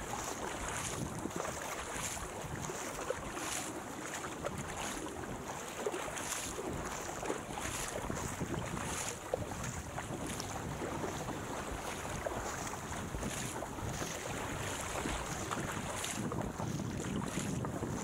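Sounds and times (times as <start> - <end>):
wind buffeting microphone: 0.0 - 3.6, 6.2 - 18.0
paddle strokes splashing: 0.0 - 18.0
water rushing past hull: 0.0 - 18.0.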